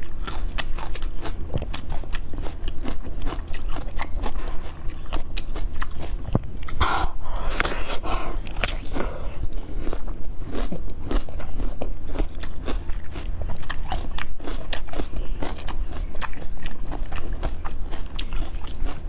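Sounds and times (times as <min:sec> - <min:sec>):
close chewing and biting: 0:00.0 - 0:19.0
low hum: 0:00.0 - 0:19.0.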